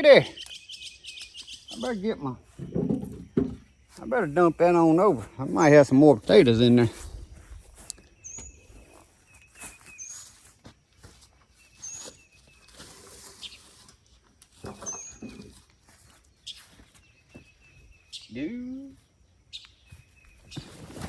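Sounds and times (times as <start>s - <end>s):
soil thumps and rustles: 1.8s - 17.8s, 19.9s - 21.0s.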